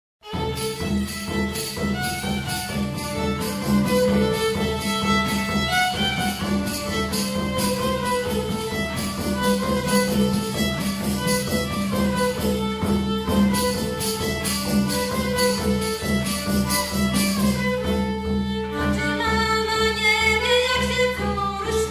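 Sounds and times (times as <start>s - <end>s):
fiddle playing a tune: 0.2s - 21.9s
folk band playing: 0.2s - 21.9s.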